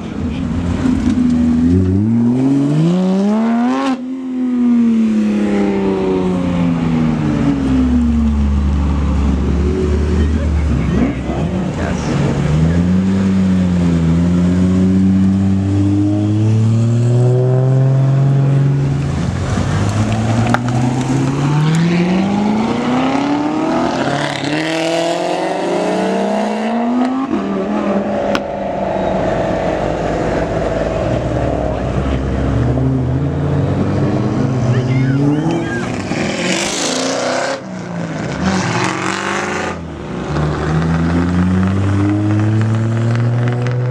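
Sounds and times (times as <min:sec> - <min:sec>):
sports car engines accelerating: 0:00.0 - 0:43.9.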